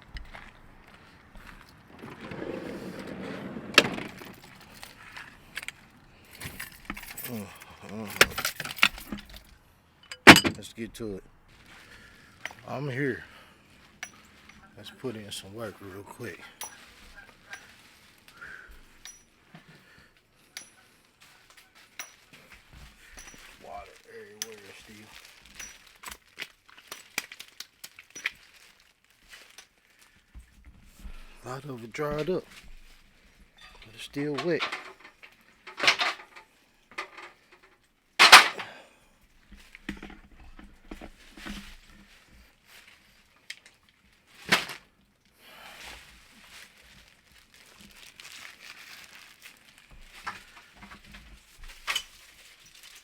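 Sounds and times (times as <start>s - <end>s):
rustling and handling noises: 0.0s - 53.0s.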